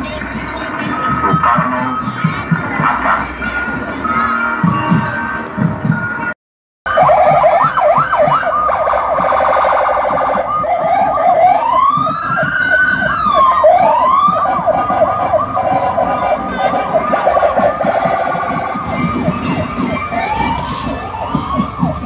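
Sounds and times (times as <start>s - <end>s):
sirens wailing: 0.0s - 22.0s.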